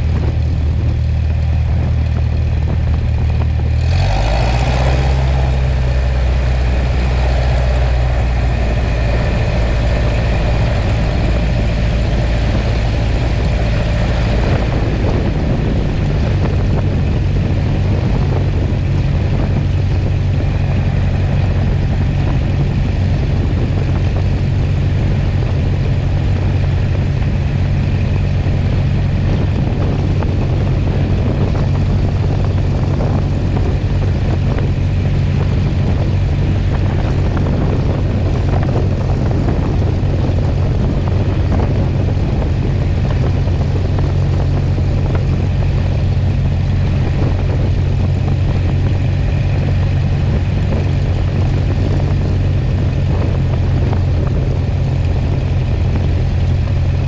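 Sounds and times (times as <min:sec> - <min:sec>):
propeller engine drone: 0:00.0 - 0:57.0
rush of air: 0:00.0 - 0:57.0.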